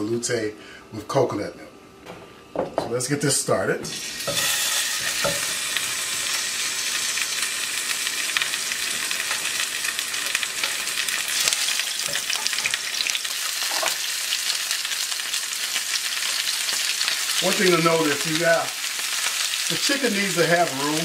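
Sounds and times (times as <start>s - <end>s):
chicken sizzling in hot oil: 3.9s - 21.0s.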